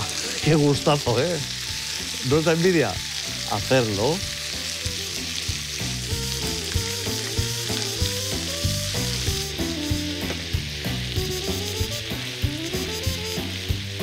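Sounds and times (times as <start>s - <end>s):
background music: 0.0s - 14.0s
onions sizzling in oil: 0.0s - 14.0s.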